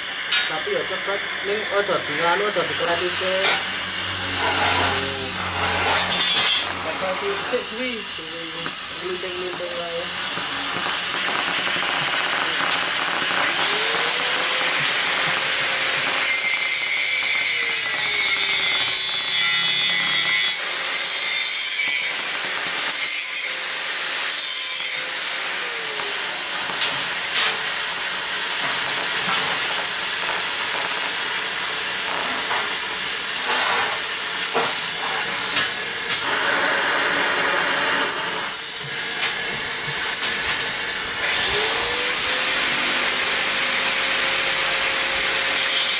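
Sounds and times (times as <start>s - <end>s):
cutting torch hissing: 0.0s - 45.9s.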